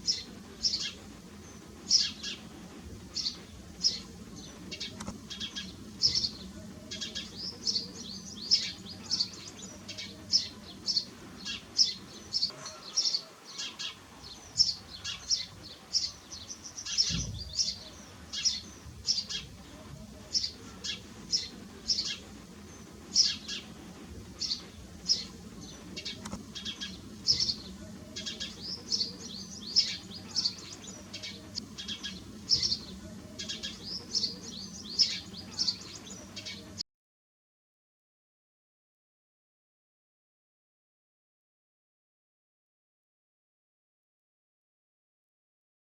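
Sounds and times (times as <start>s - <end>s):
sparrows chirping: 0.0s - 36.8s.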